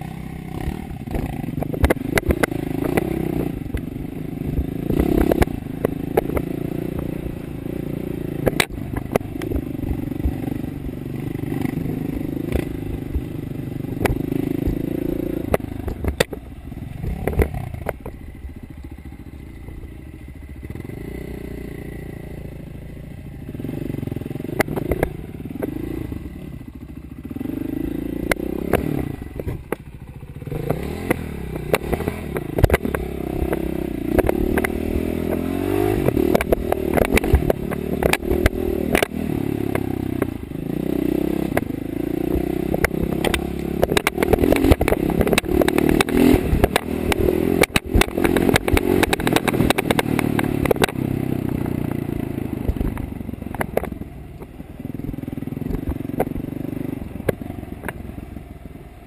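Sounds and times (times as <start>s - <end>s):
dirt bike engine revving: 0.0s - 18.1s, 23.4s - 53.0s.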